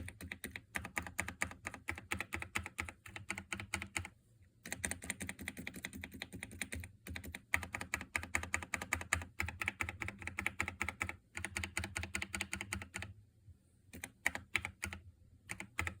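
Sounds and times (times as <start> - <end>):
fast mechanical keyboard typing: 0.0 - 13.2, 13.9 - 16.0.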